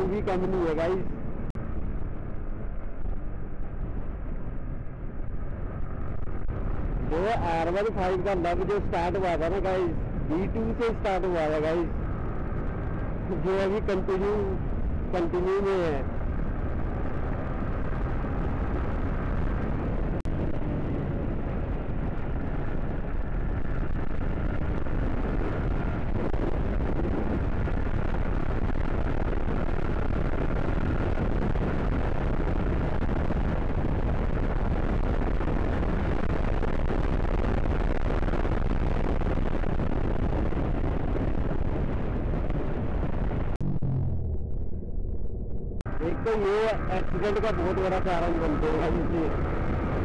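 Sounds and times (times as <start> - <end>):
faint motorcycle engine: 0.0 - 50.0
wind buffeting microphone: 0.0 - 50.0.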